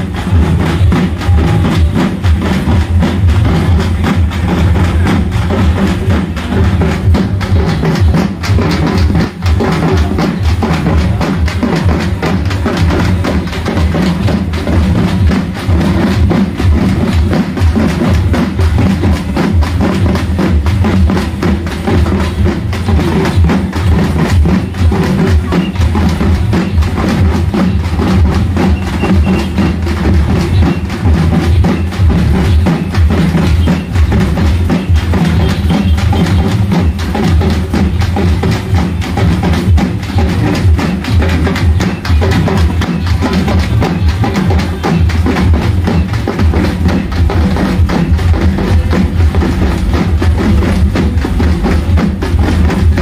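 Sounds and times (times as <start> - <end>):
barrel drums beaten fast: 0.0 - 53.0.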